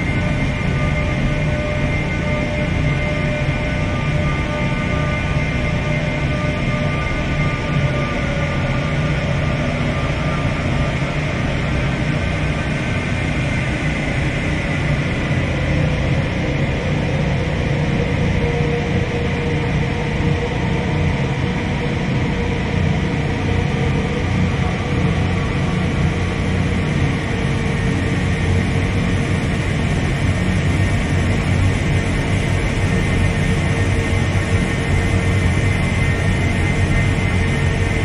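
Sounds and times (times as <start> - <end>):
dark ambient drone music: 0.0 - 38.0.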